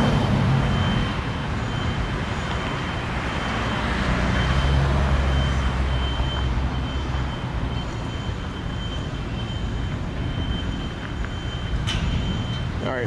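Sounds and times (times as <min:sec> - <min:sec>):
heavy vehicle low rumble: 0:00.0 - 0:13.0
street traffic passing: 0:00.0 - 0:13.0.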